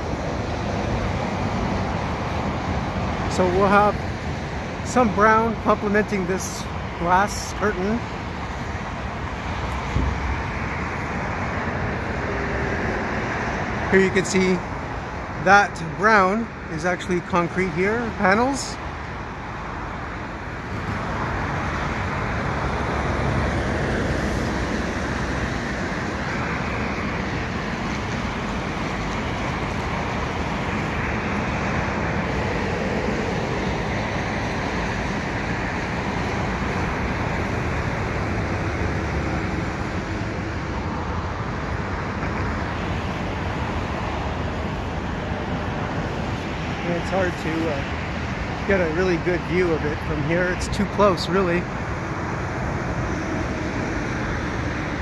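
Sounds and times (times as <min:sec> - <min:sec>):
highway traffic: 0:00.0 - 0:55.0.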